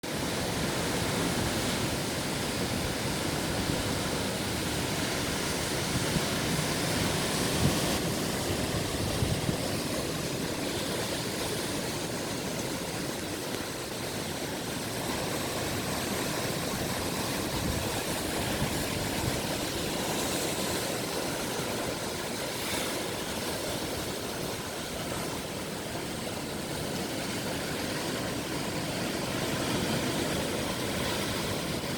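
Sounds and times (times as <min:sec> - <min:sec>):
ocean waves surf: 0:00.0 - 0:31.9.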